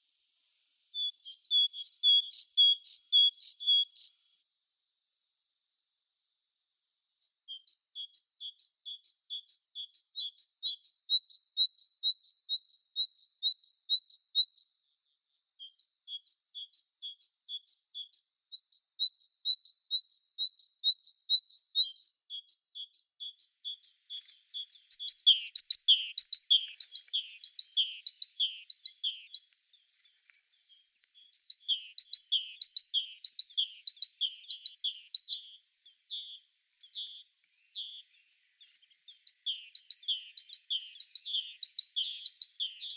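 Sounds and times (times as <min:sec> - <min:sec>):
songbirds chirping: 0:00.8 - 0:04.3, 0:07.1 - 0:42.9
bird warbling song: 0:01.0 - 0:04.2, 0:07.2 - 0:14.7, 0:15.4 - 0:42.9.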